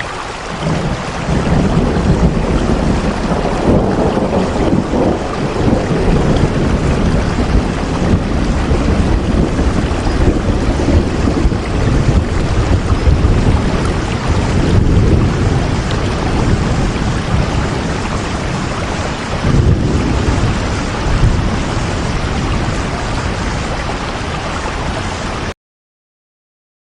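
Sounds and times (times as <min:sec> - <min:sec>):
heavy rain: 0:00.0 - 0:25.6
deep rumbling: 0:00.6 - 0:23.9.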